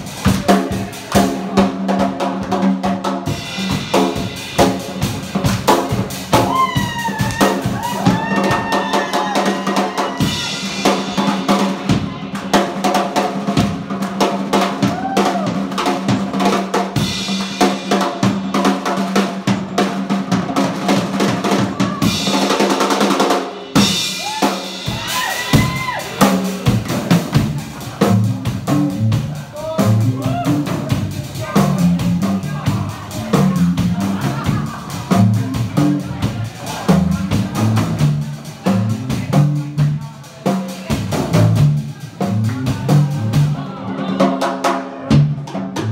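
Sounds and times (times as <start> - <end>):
drum kit beat: 0.0 - 45.9.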